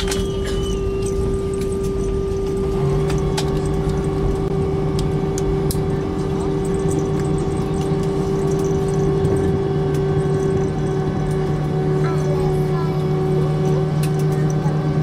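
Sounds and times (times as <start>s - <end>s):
sharp rattles: 0.0s - 12.5s
aircraft engine hum: 0.0s - 15.0s
low runway rumble: 0.0s - 15.0s.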